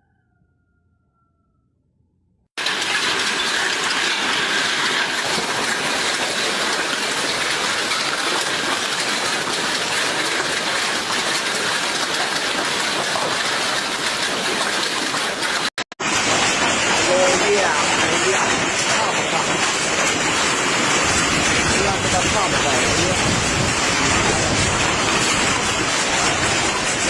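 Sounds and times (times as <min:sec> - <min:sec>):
hailstones pelting down: 0:02.6 - 0:27.0.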